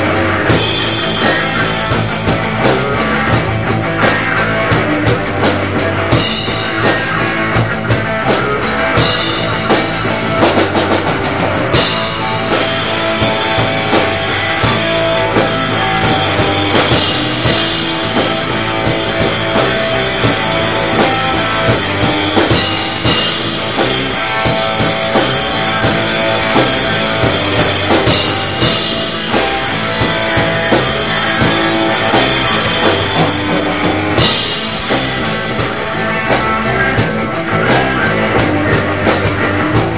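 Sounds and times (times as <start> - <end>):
punk band playing: 0.0 - 39.9.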